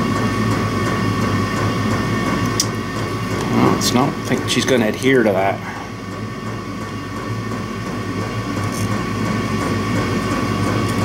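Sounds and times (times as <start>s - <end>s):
soldering gun electrical hum: 0.0s - 11.0s.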